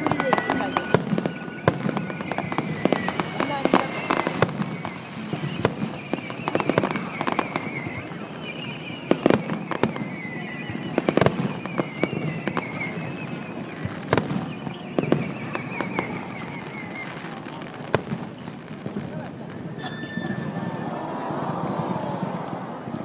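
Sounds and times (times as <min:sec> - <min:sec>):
wavering whistle: 0:00.0 - 0:17.5, 0:19.8 - 0:22.2
fireworks bangs: 0:00.0 - 0:23.0
fireworks crackling: 0:00.0 - 0:23.0.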